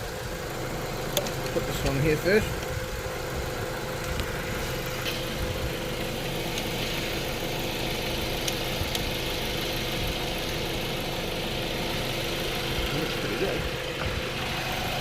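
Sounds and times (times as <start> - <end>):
air-conditioning compressor running: 0.0 - 15.0
car engine idling: 0.0 - 15.0.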